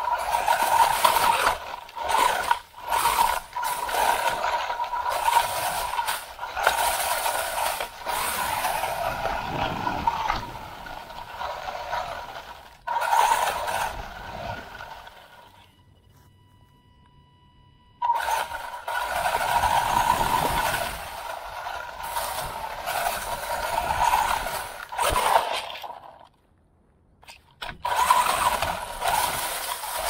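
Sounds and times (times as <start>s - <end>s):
rattling drivetrain: 0.0s - 15.7s, 18.0s - 26.3s, 27.6s - 30.0s
electric motor whine: 0.0s - 25.5s, 27.8s - 30.0s.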